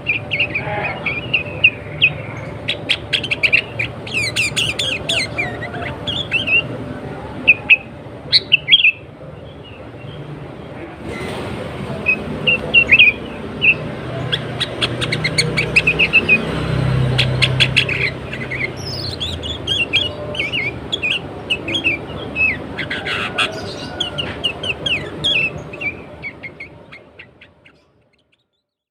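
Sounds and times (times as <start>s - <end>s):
bird chirping and whistling: 0.0s - 6.7s, 7.4s - 9.0s, 12.0s - 27.8s.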